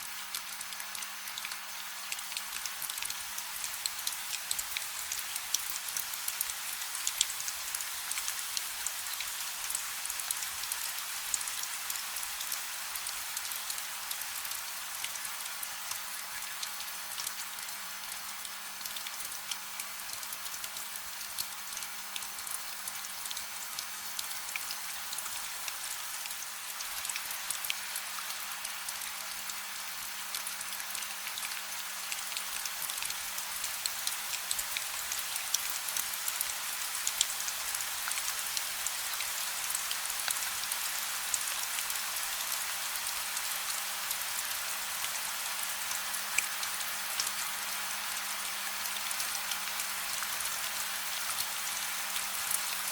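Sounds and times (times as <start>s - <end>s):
gentle rain: 0.0s - 52.9s.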